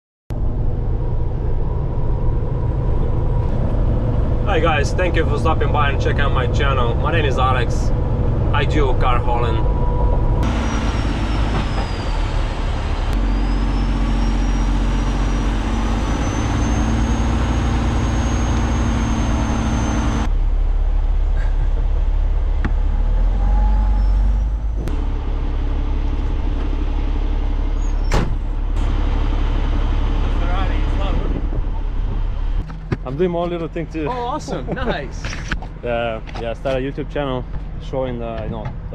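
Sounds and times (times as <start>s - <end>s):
diesel truck engine running: 0.3s - 38.9s.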